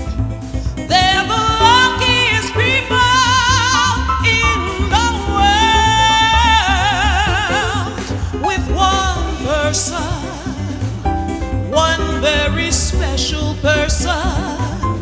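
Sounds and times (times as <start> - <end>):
instrumental accompaniment: 0.0 - 15.0
woman singing a slow ballad: 0.8 - 11.1, 11.7 - 15.0.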